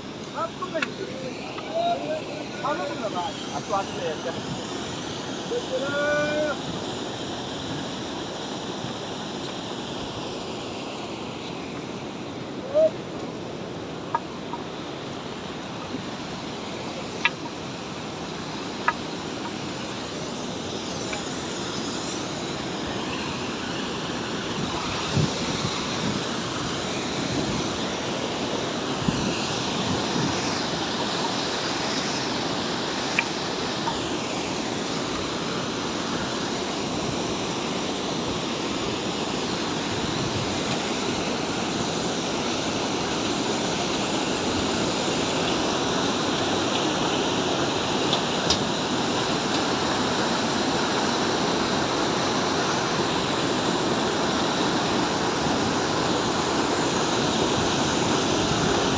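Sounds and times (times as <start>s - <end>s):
rushing water: 0.0s - 58.9s.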